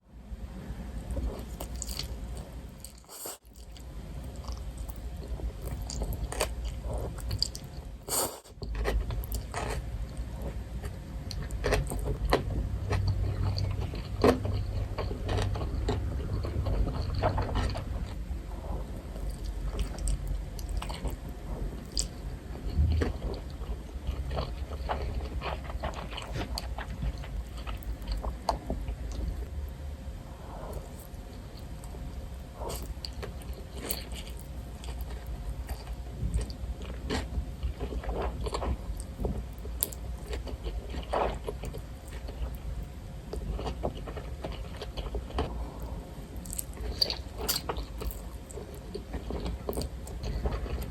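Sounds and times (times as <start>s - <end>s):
person chewing crunchy food: 1.1s - 29.5s, 30.3s - 50.9s.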